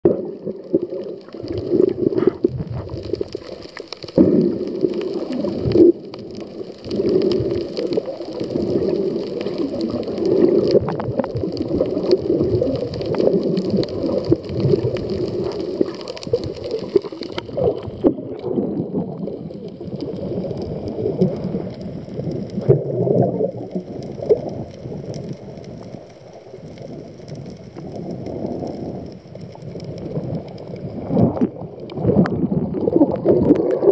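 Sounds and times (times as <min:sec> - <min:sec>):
muffled underwater water churn: 0:00.0 - 0:33.9
faint clicks and crackles: 0:00.1 - 0:33.9.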